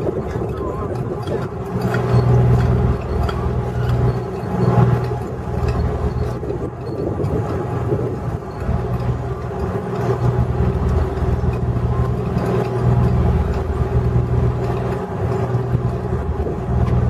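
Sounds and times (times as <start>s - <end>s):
machines humming mechanically: 0.0s - 17.0s.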